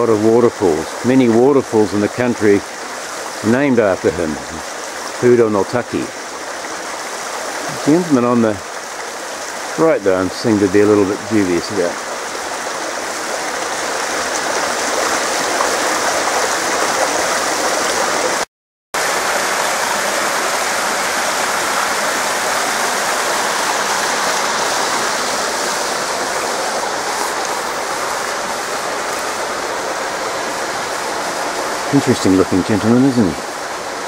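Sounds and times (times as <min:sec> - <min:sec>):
waterfall splashing: 0:00.0 - 0:34.0.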